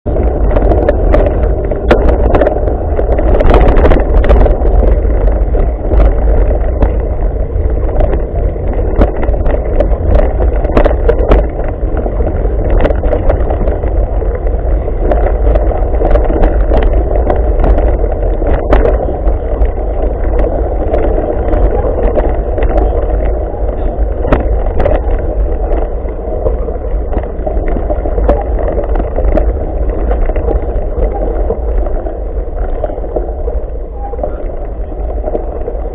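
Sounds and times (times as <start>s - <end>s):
wind buffeting the microphone: 0.0s - 35.9s
bike knocks and rattles: 0.1s - 35.9s.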